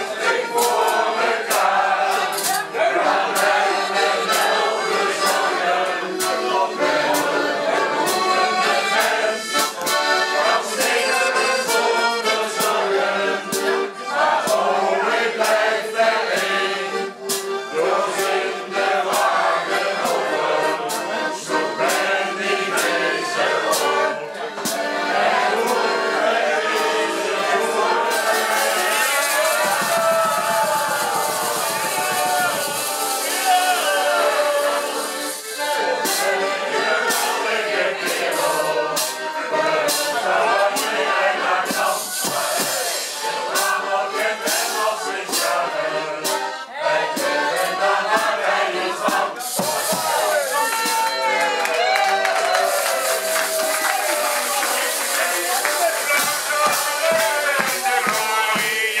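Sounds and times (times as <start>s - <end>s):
accordion playing folk tune: 0.0s - 59.0s
group of people singing: 0.0s - 59.0s.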